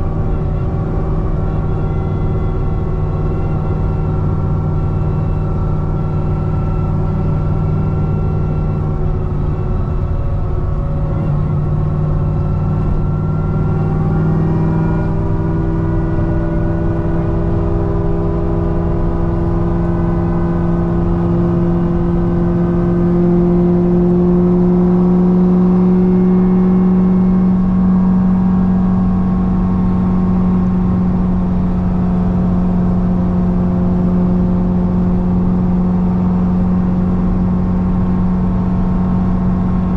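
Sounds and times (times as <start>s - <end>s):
car engine pulling at speed: 0.0s - 39.9s
road noise: 0.0s - 39.9s.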